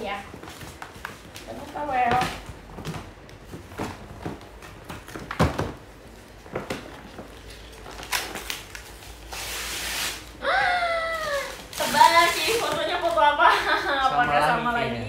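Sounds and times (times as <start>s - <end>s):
paper bags rustling and crinkling: 0.0s - 10.4s, 11.0s - 13.9s.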